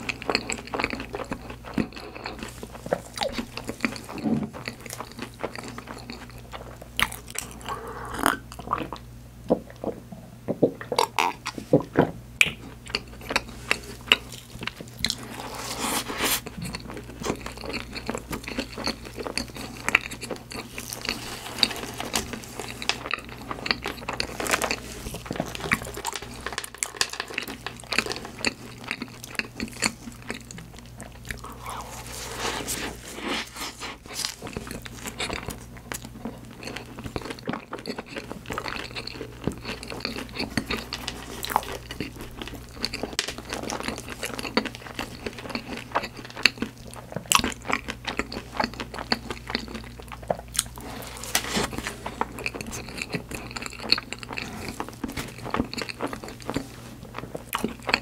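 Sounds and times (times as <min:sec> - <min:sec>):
chewing with crisp crunches: 0:00.0 - 0:10.0, 0:10.8 - 0:58.0.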